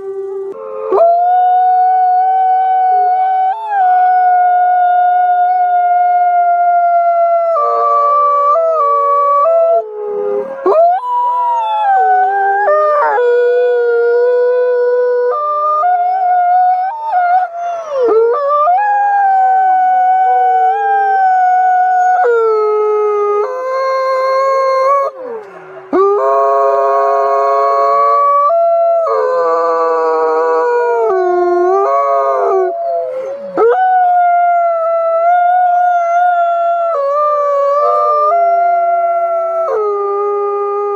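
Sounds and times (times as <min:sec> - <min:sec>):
wolves howling in chorus: 0:00.0 - 0:40.9.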